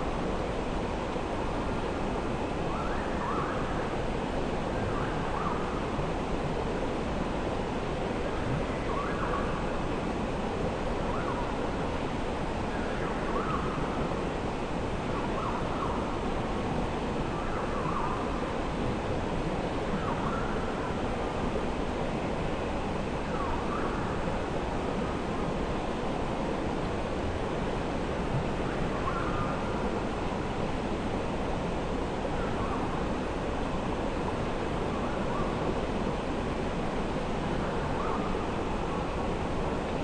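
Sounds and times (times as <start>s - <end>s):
flowing creek water: 0.0s - 40.0s.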